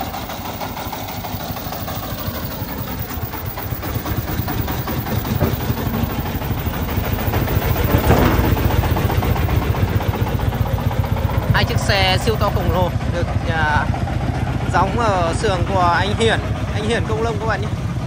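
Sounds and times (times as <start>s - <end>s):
diesel truck engine chugging: 0.0s - 18.0s.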